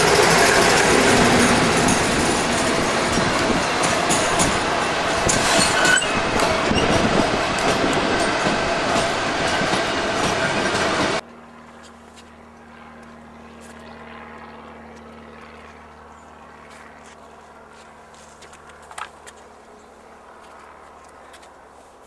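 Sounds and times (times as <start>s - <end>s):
distant diesel locomotive drone: 0.0s - 22.0s.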